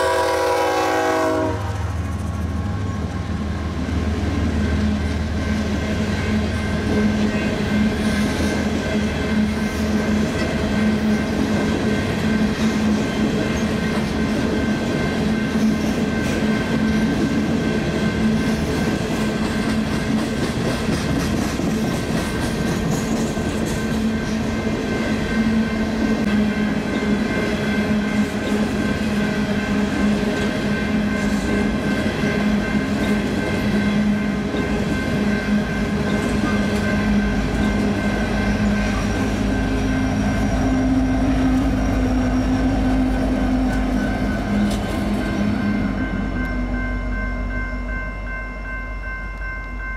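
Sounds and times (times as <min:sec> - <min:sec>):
diesel locomotive engine rumble: 0:00.0 - 0:49.9.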